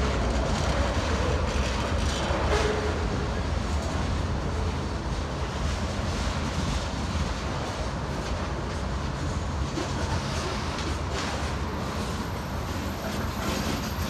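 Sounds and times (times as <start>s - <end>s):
freight train cars rumbling: 0.0s - 14.0s.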